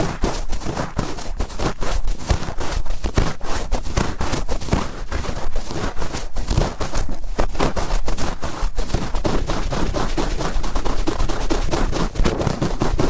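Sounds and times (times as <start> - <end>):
cotton swab scraping in ear: 0.0 - 13.0.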